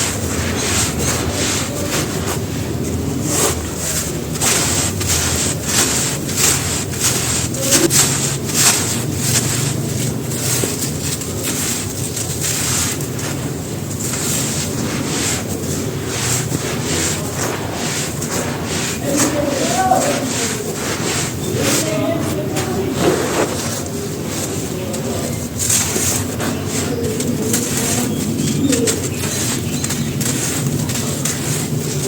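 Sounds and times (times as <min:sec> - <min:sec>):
sand-cement crumbling and crunching: 0:00.0 - 0:32.0.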